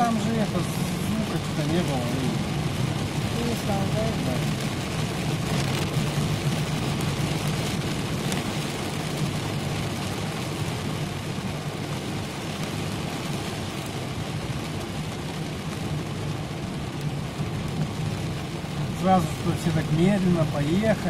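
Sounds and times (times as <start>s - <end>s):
car driving hum: 0.0s - 21.0s
heavy rain on car roof: 0.0s - 21.0s.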